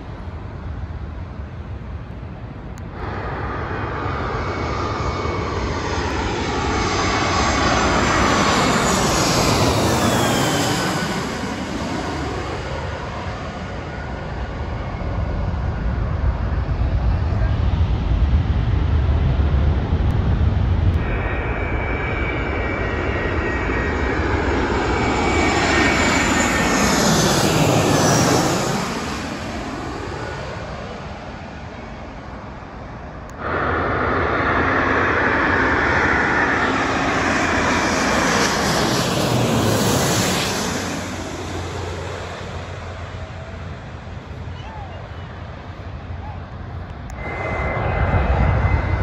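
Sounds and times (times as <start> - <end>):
jet airliner passing overhead: 0.0 - 49.0.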